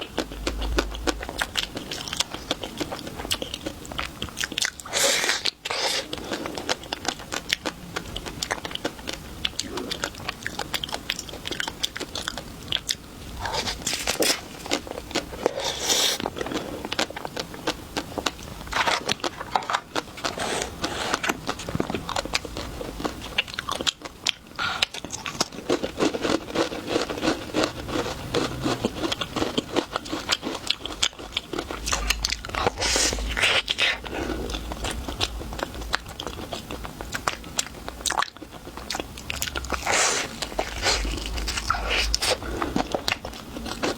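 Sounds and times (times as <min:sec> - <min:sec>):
crunchy chewing: 0:00.0 - 0:43.9.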